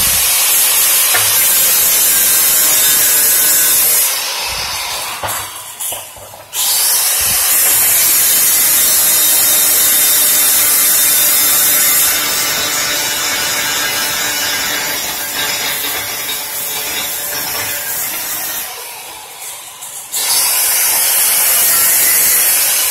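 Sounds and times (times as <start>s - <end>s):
welder arc crackling and hissing: 0.0s - 22.5s.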